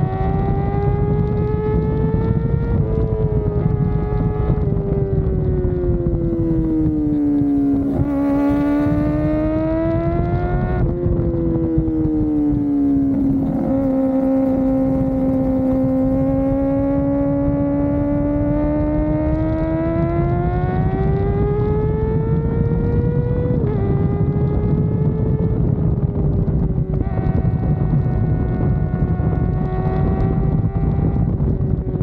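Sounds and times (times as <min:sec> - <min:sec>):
motorcycle engine revving: 0:00.0 - 0:32.0
wind rushing: 0:00.0 - 0:32.0.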